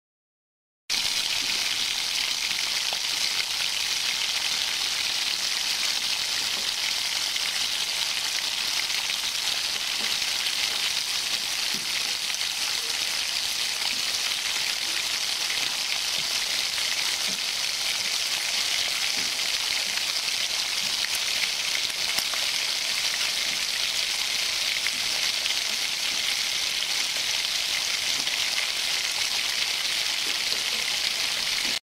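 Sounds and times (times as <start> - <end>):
bacon sizzling and crackling: 0.9 - 31.8.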